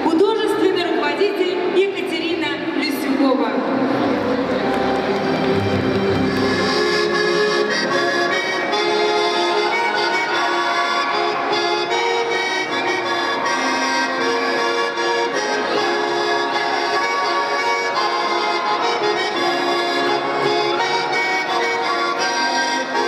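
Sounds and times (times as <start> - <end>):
accordion playing folk tune: 3.7 - 23.0.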